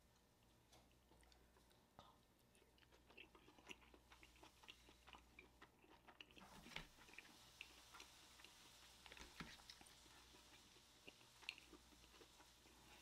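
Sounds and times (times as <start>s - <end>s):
wet chewing mouth clicks: 0.7s - 12.5s.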